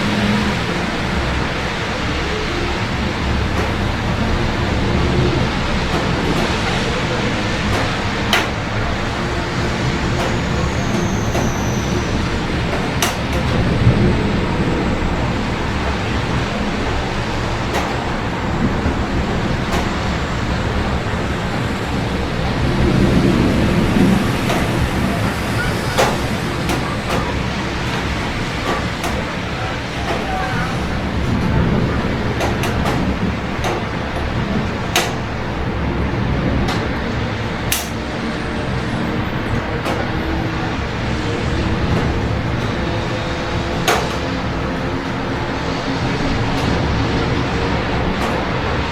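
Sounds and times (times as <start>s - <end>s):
road traffic rumble: 0.0s - 48.9s
steady rain: 0.0s - 48.9s.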